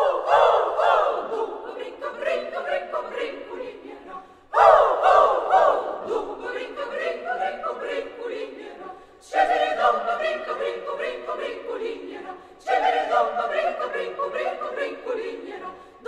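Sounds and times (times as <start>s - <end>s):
choir singing a cappella: 0.0s - 16.0s.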